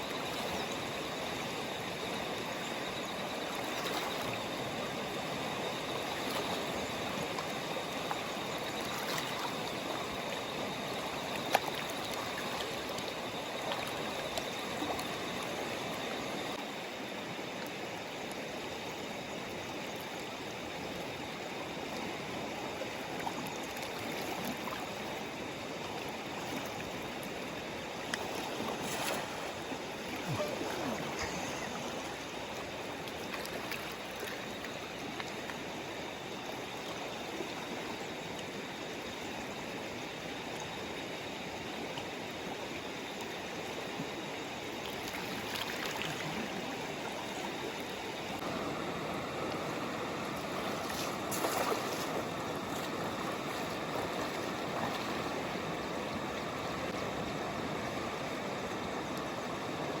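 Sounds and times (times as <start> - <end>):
river water rushing over stones: 0.0 - 60.0.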